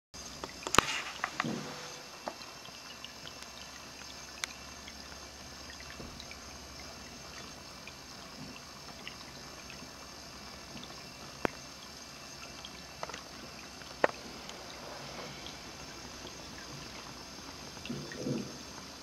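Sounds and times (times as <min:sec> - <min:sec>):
water trickling into bowl: 0:00.2 - 0:19.0.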